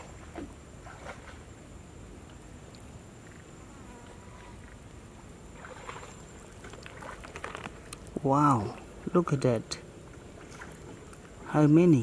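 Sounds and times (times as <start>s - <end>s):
soft water splashes: 0.0s - 12.0s.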